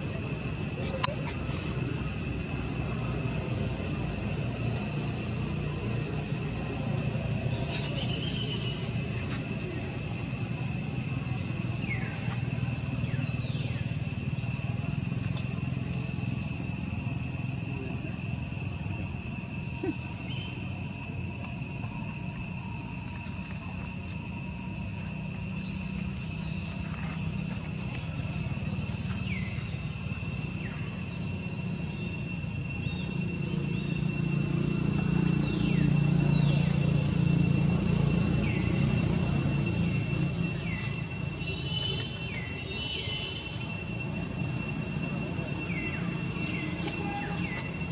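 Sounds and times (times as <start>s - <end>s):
insect chorus: 0.0s - 47.9s.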